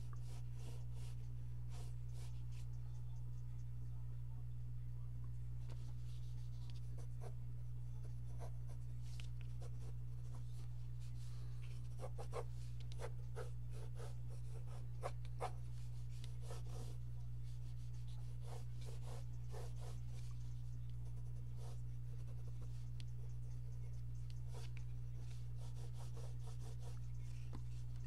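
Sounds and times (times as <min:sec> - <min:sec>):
pencil scratching on paper: 0:00.0 - 0:02.8, 0:08.0 - 0:28.0
steady low hum: 0:00.0 - 0:28.0.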